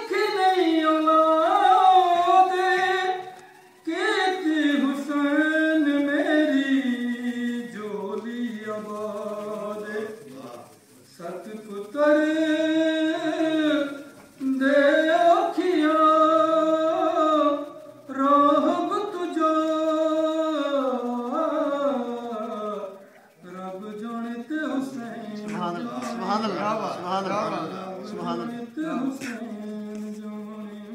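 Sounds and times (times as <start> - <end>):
man chanting unaccompanied: 0.0 - 30.9.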